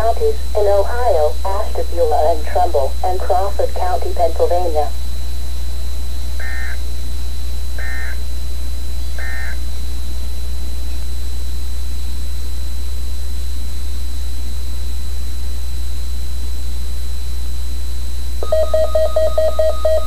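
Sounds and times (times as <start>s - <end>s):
electrical hum with hiss: 0.0s - 20.0s
thin high whine: 0.0s - 20.0s.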